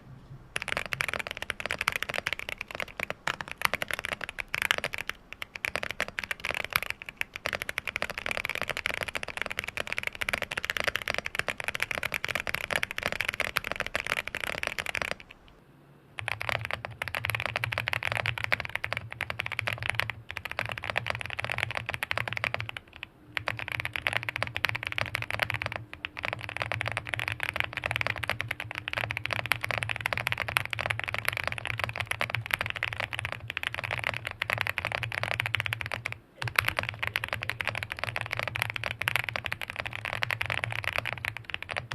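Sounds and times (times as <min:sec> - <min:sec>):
steady low hum: 0:00.0 - 0:41.9
mechanical keyboard typing: 0:00.6 - 0:15.6, 0:16.2 - 0:41.9.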